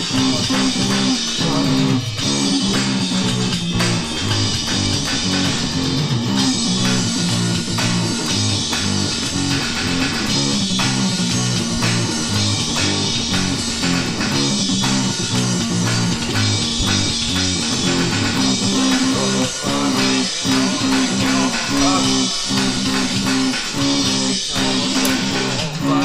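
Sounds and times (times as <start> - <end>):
bass guitar riff: 0.0 - 26.0
rock music with electric guitar: 0.0 - 26.0.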